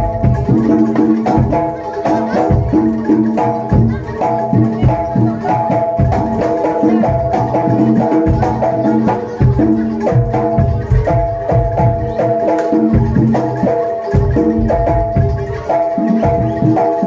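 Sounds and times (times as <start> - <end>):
drum beats: 0.0 - 17.0
pitched struck percussion notes: 0.0 - 17.0.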